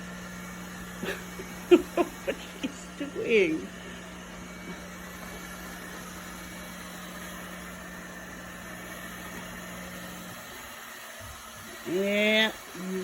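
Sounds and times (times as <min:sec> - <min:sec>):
robot vacuum motor humming: 0:00.0 - 0:13.0.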